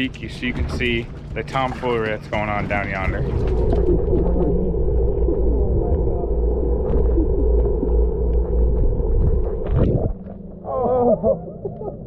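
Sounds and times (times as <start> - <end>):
muffled underwater rumble and hum: 0.0 - 12.0.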